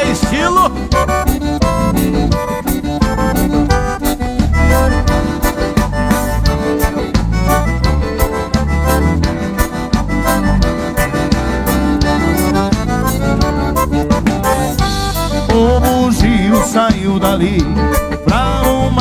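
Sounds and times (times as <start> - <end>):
accordion melody: 0.0 - 19.0
bass: 0.0 - 19.0
steady beat: 0.0 - 19.0.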